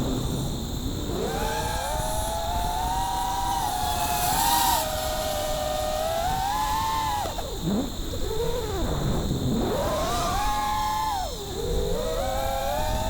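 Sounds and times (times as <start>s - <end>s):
drone motors whining: 0.4s - 13.0s.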